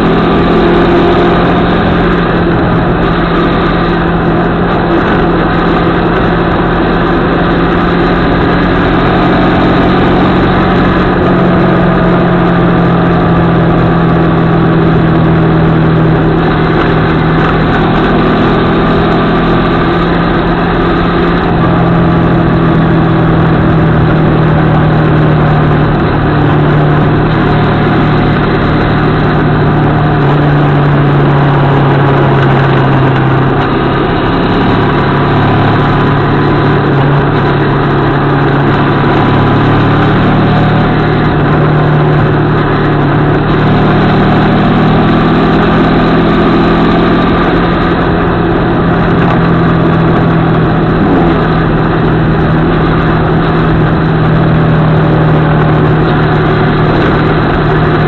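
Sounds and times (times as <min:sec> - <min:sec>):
heavy wind rush: 0:00.0 - 0:58.0
motorcycle engine running: 0:00.0 - 0:58.0.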